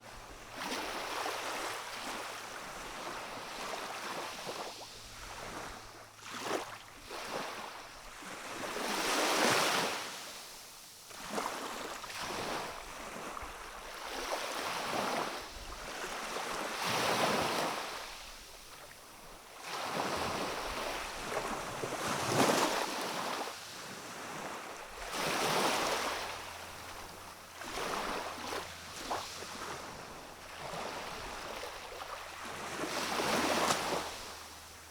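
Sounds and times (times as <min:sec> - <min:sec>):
gentle sea waves: 0:00.0 - 0:34.9.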